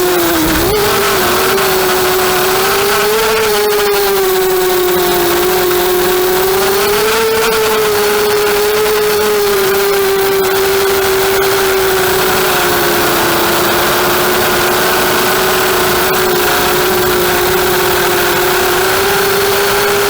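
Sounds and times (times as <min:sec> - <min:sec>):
quadcopter buzzing whine: 0:00.0 - 0:20.0.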